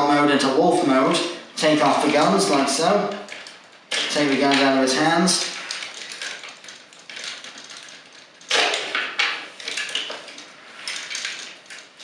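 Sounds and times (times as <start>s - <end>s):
plastic toy parts clacking: 1.9s - 12.0s.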